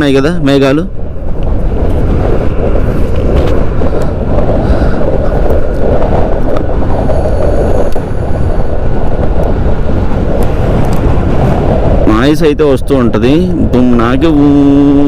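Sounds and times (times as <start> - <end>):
road noise: 0.0 - 15.0
wind rushing on microphone: 0.0 - 15.0.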